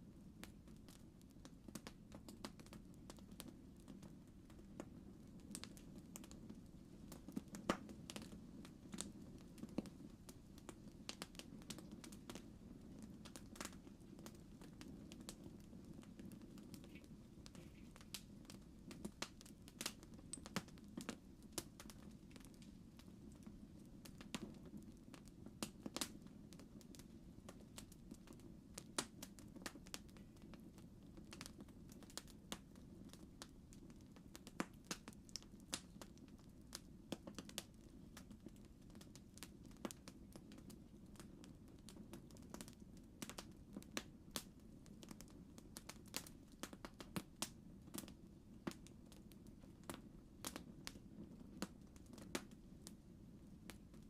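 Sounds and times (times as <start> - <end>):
campfire crackling and popping: 0.1 - 54.0.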